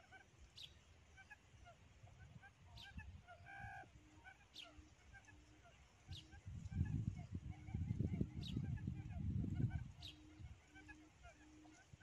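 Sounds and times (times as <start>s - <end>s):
soft bird chirps: 0.0s - 12.0s.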